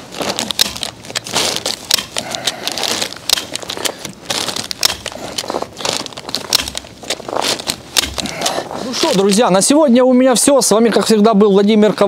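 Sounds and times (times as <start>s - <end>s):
plastic sheeting crinkling: 0.0s - 9.7s.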